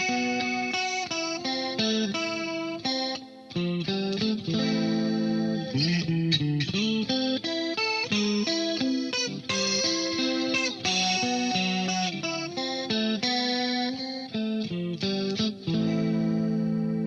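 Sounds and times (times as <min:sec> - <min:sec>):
electric guitar notes: 0:00.0 - 0:17.0.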